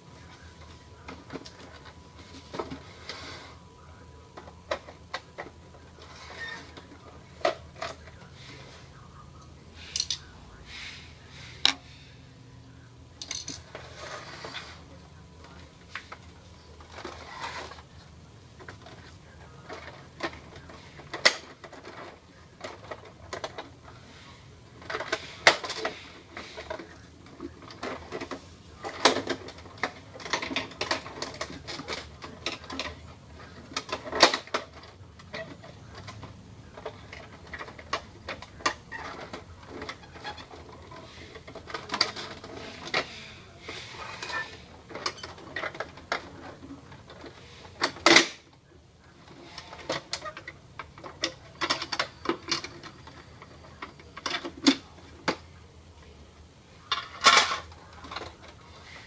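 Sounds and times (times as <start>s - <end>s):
hands handling plastic printer parts: 0.0s - 11.9s, 13.2s - 59.0s.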